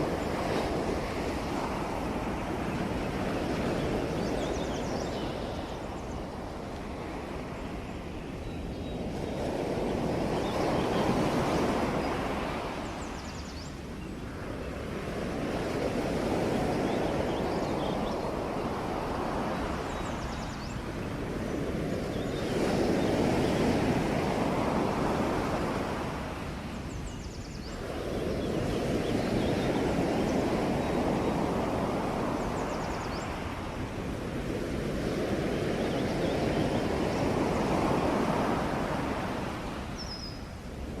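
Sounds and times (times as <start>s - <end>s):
ocean waves breaking on shore: 0.0s - 41.0s.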